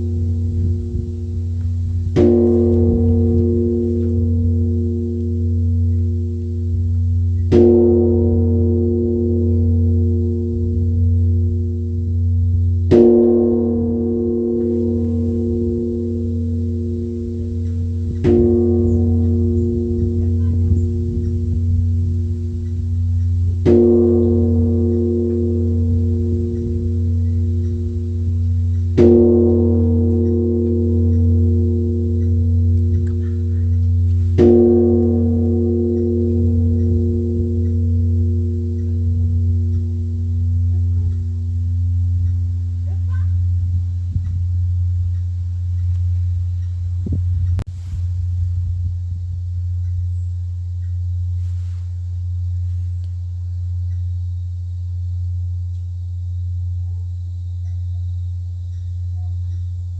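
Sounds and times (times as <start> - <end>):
large bronze bell ringing: 0.0 - 47.6, 48.2 - 59.9.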